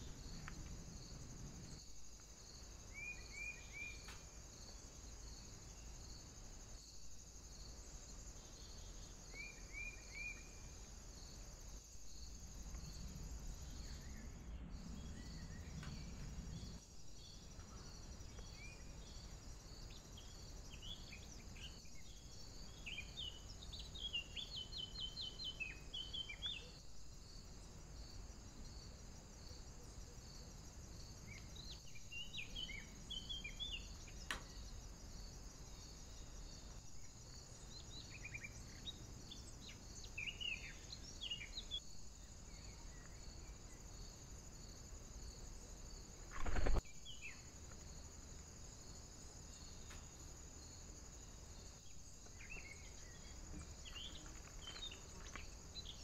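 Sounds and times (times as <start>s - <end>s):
faint high-pitched hiss: 0.0s - 56.0s.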